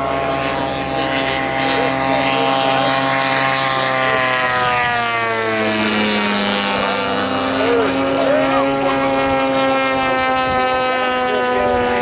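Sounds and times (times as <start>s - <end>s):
model plane engine and propeller: 0.0s - 12.0s.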